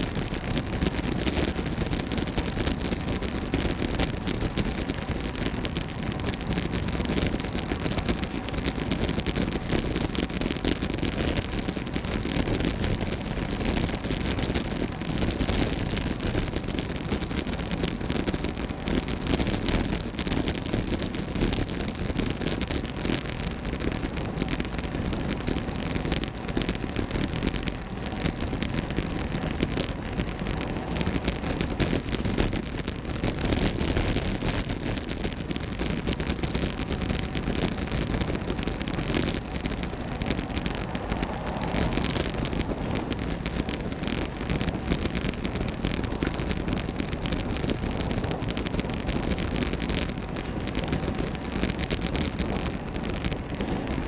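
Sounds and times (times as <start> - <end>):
small crackles: 0.0 - 54.0
tyre and road noise: 0.0 - 54.0
wind rushing over microphone: 0.0 - 54.0.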